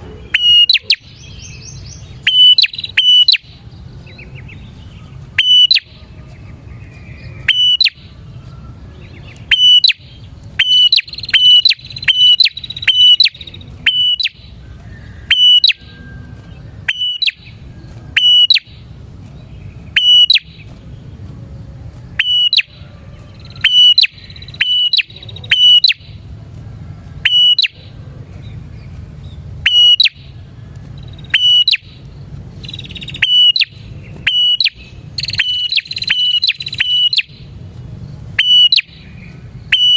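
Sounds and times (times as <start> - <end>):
bird chirping: 0.0 - 26.4, 27.1 - 39.9.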